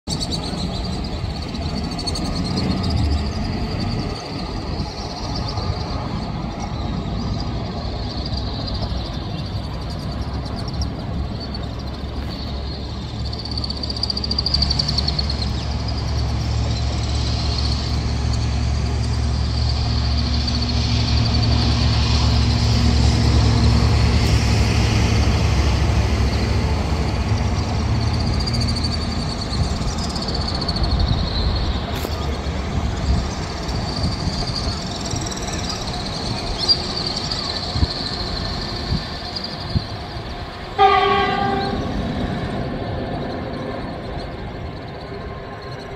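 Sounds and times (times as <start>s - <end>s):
distant electric locomotive rumble: 0.1s - 45.9s.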